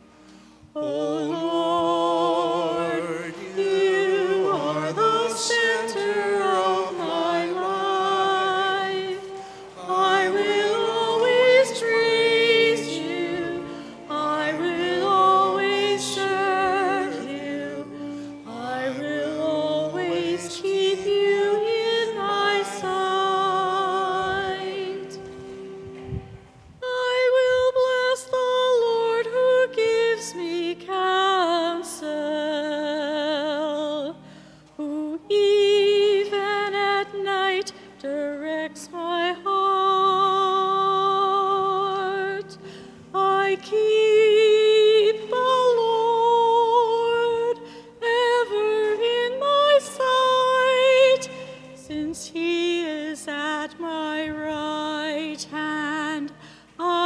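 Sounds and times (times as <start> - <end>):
sustained accompaniment: 0.0 - 57.0
solo voice singing a hymn: 0.6 - 25.5, 26.8 - 57.0.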